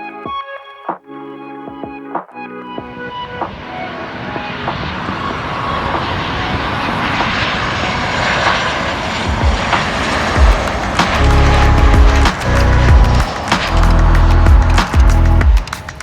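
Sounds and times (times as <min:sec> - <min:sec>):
airliner engines roaring: 0:02.9 - 0:16.0.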